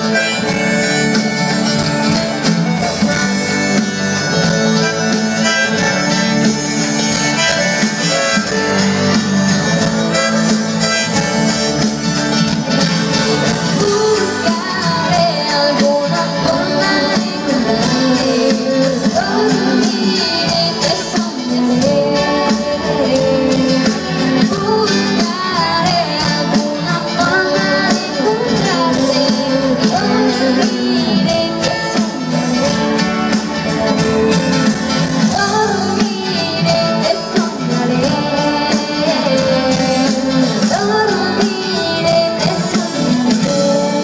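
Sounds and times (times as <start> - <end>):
live pop-rock band playing: 0.0 - 44.0.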